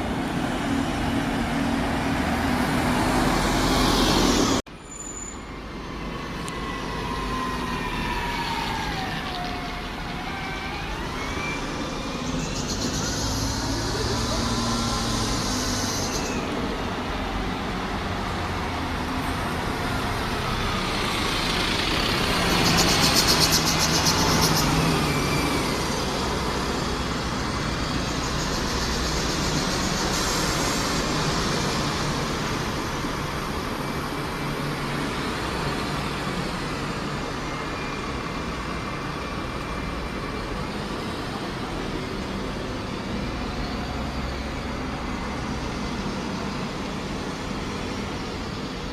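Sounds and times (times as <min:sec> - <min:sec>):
road traffic: 0:00.0 - 0:48.9.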